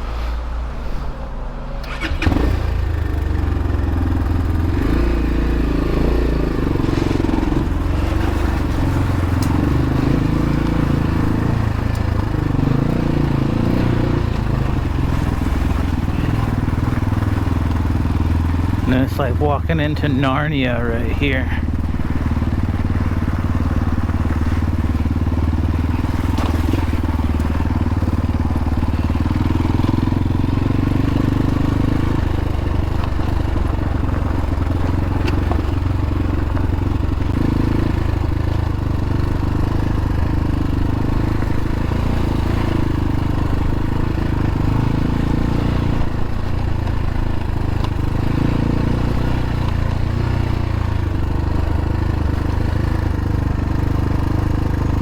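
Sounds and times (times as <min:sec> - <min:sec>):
dirt bike engine low revs: 0:01.8 - 0:55.0.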